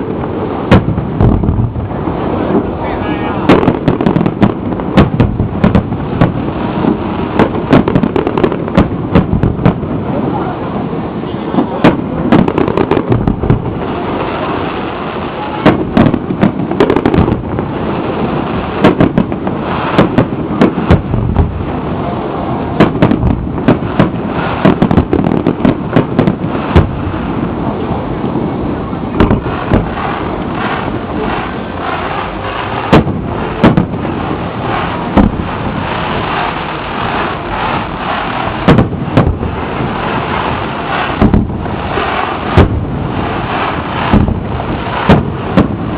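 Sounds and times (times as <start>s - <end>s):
fireworks bursting with loud bangs: 0.0s - 45.9s
steady background rumble: 0.0s - 45.9s.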